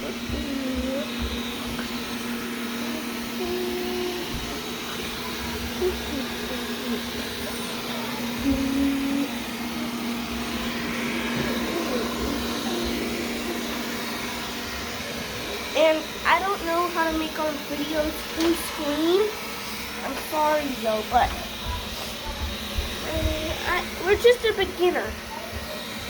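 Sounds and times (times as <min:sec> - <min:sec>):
robot vacuum running: 0:00.0 - 0:26.0.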